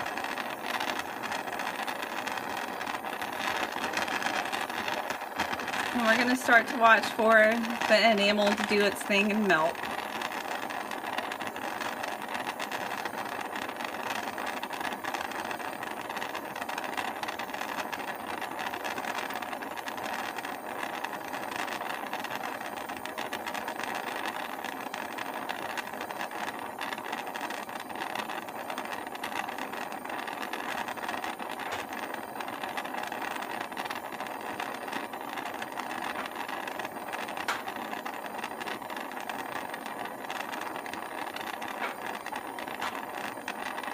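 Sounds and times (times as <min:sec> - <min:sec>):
gas torch flame hissing: 0:00.0 - 0:43.9.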